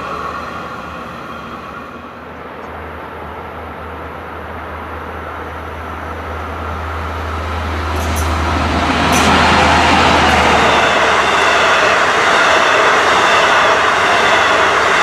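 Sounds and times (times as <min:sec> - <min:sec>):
train approaching rumble: 0:00.0 - 0:15.0.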